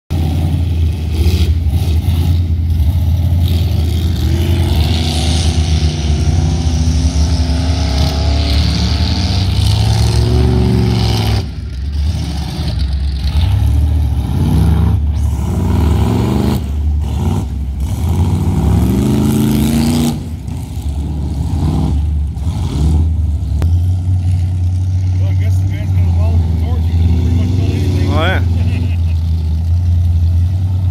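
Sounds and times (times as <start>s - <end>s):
truck engine revving: 0.1s - 30.9s.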